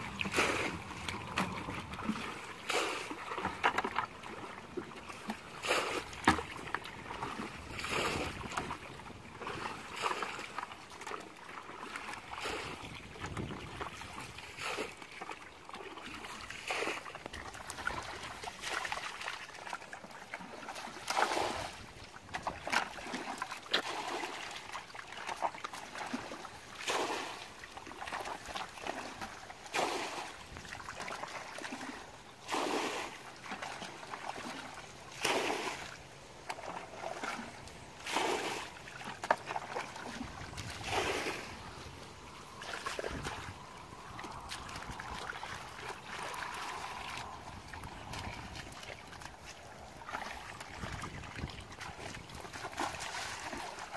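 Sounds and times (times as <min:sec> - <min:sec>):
hands splashing in muddy water: 0:00.0 - 0:53.9.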